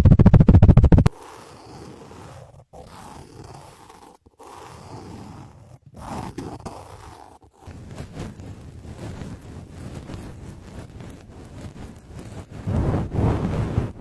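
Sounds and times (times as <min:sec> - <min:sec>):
scratching on microphone: 0:00.0 - 0:14.0.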